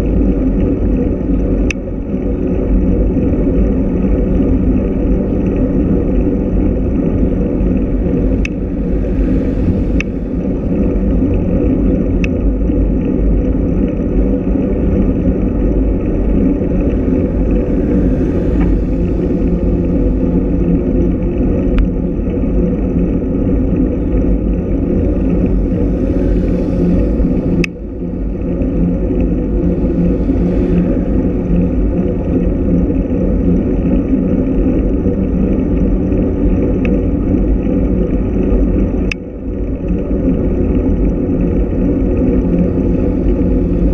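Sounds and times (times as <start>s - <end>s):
bicycle road rumble: 0.0s - 43.9s
wind noise: 0.0s - 43.9s.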